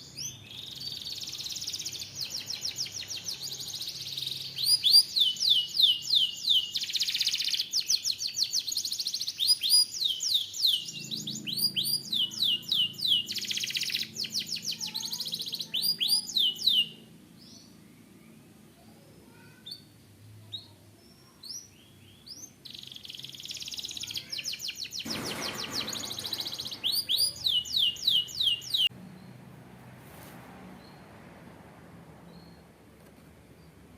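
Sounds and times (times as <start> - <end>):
canary singing trills: 0.0 - 17.8, 19.3 - 29.4
soft bird chirps: 0.0 - 29.4.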